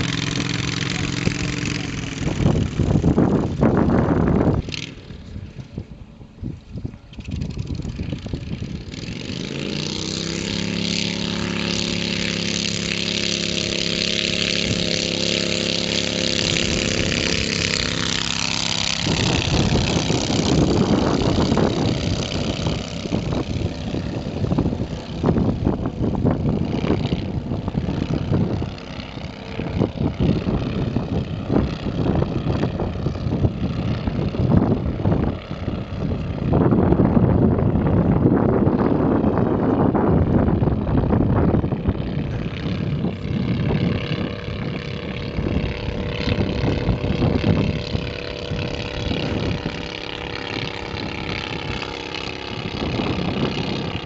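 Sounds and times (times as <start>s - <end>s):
gusty fluctuating rumble: 0.0s - 54.0s
small plane engine at full power: 0.0s - 54.0s.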